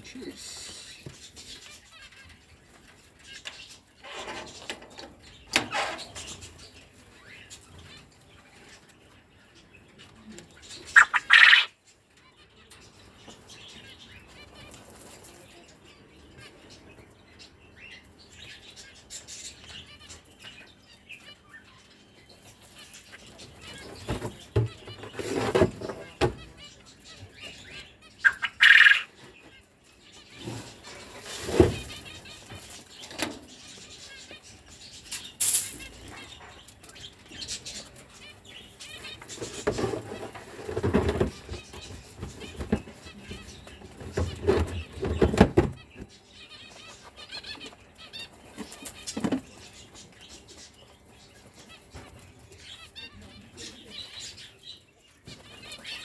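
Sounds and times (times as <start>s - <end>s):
quail and finches calling: 0.0s - 56.0s
sharp bird calls: 0.0s - 56.0s.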